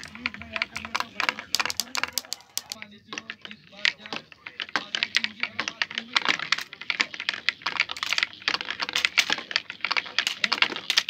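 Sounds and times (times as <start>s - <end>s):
marbles clacking down wooden run: 0.0s - 11.0s.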